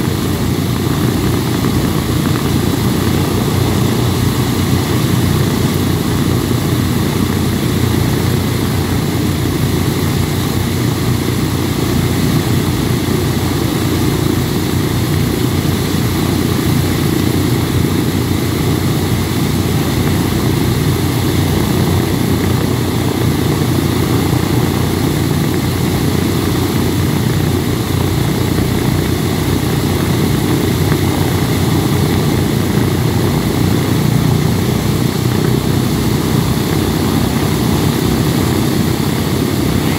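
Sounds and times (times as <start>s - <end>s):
propeller engines idling: 0.0s - 39.9s.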